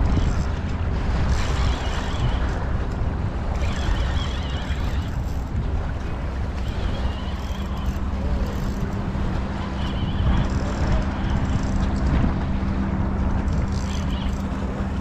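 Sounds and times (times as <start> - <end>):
steady low hum: 0.0 - 15.0
strong wind buffeting microphone: 0.0 - 15.0.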